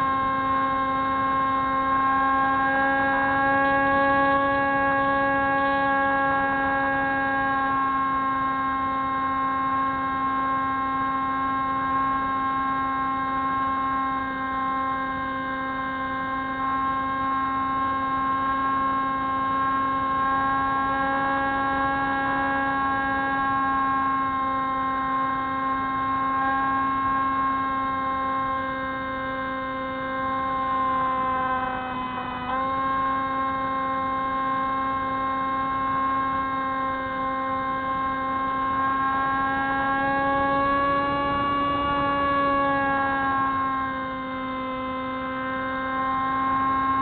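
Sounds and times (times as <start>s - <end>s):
model plane motor humming: 0.0s - 47.0s.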